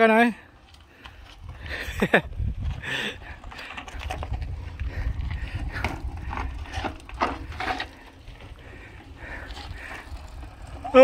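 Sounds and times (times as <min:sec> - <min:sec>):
bike rattling over rocky ground: 0:00.0 - 0:11.0
wind rumble on microphone: 0:01.2 - 0:11.0.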